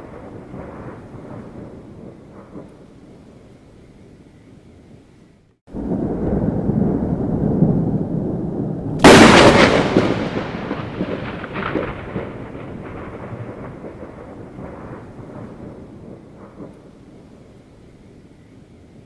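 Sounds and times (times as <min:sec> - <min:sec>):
thunder rumble and crack: 0:00.0 - 0:03.5, 0:05.7 - 0:17.8.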